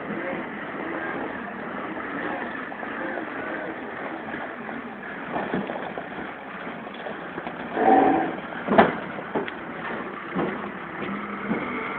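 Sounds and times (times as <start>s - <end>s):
diesel engine running: 0.0s - 11.9s
tyres on gravel: 0.1s - 11.9s.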